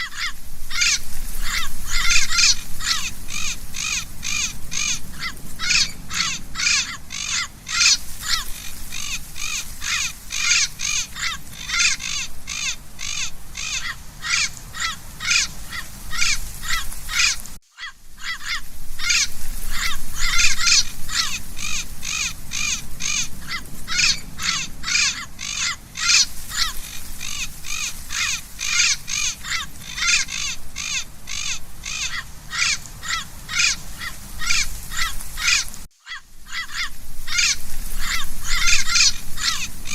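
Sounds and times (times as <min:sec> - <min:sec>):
parrot calling: 0:00.0 - 0:39.9.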